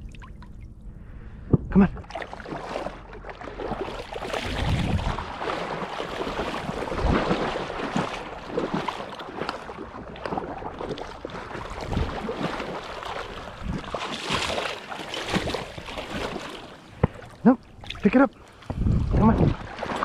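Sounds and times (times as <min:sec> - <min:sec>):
shallow water splashing: 0:00.0 - 0:20.0.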